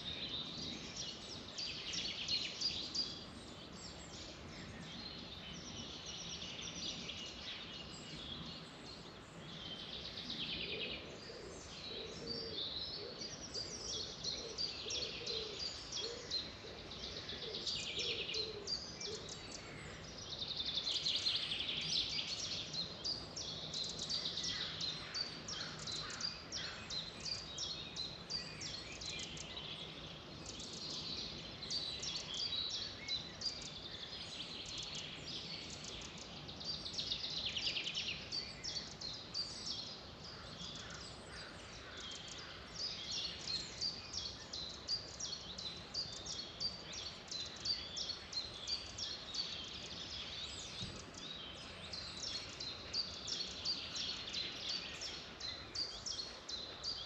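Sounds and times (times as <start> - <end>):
birds chirping and trilling: 0.0 - 57.0
faint background noise: 0.0 - 57.0.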